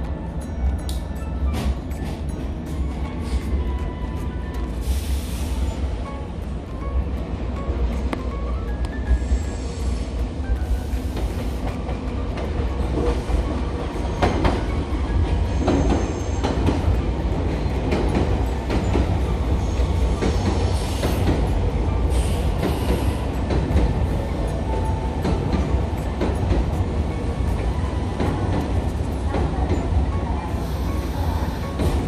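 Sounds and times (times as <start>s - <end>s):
train running gear rumble: 0.0s - 32.0s.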